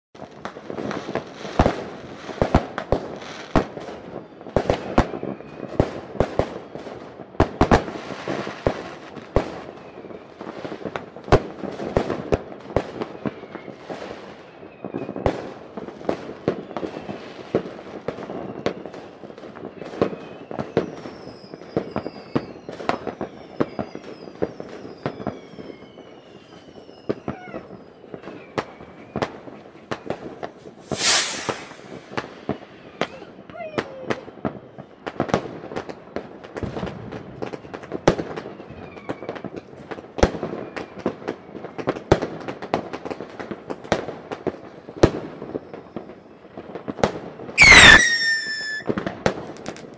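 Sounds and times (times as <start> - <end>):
fireworks whistling: 0.2 - 35.4, 36.6 - 39.6, 47.5 - 49.9
fireworks bangs and crackles: 0.2 - 49.9.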